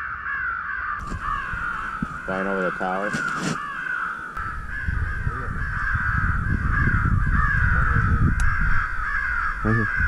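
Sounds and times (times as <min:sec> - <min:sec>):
crows cawing: 0:00.0 - 0:10.0.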